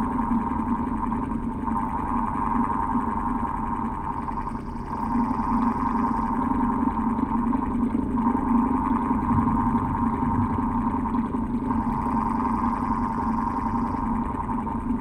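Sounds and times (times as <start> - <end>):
electric fan humming and whirring: 1.9 - 15.0.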